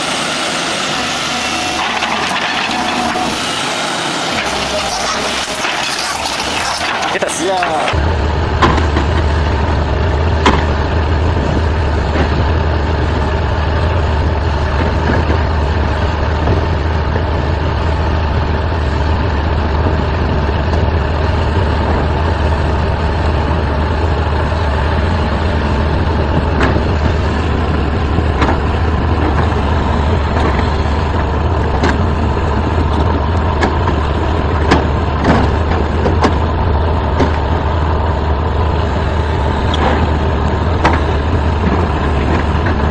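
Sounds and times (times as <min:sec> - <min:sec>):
diesel engine low hum: 0:00.0 - 0:42.9.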